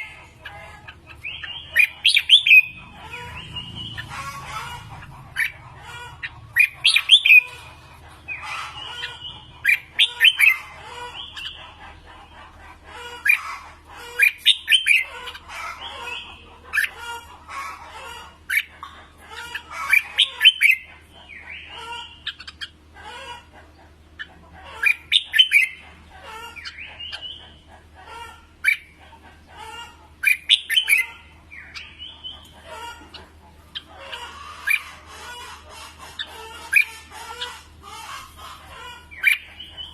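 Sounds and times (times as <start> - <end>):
bird singing warbled phrases: 0.0 - 39.9
steady low hum: 0.0 - 39.9.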